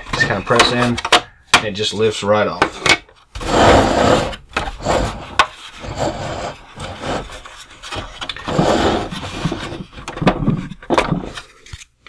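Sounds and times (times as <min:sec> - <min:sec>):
plastic rubbing and scraping: 0:01.8 - 0:11.9.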